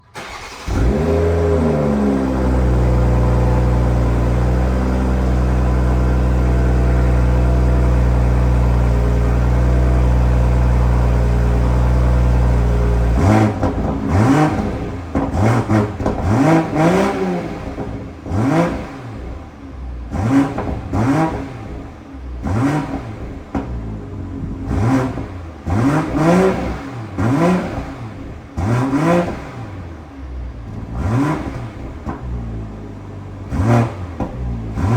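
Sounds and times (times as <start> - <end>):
car engine starting and idling: 0.0 - 34.9
car engine revving: 0.1 - 34.9.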